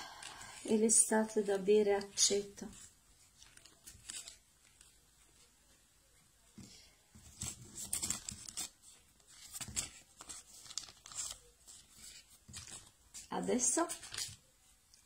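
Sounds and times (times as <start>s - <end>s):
pastry sheet rustling: 0.0s - 15.0s.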